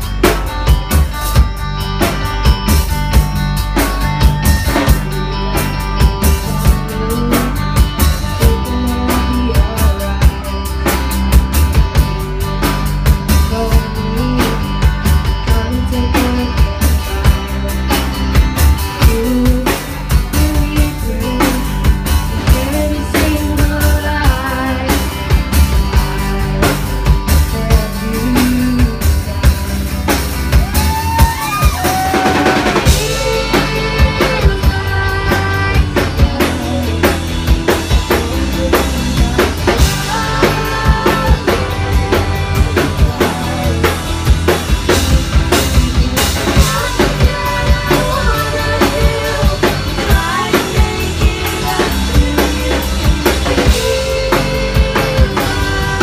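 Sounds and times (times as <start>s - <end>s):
rock band playing: 0.0s - 56.0s
woman singing: 4.8s - 11.1s, 11.7s - 18.2s, 18.9s - 29.4s, 30.7s - 44.1s, 45.6s - 56.0s.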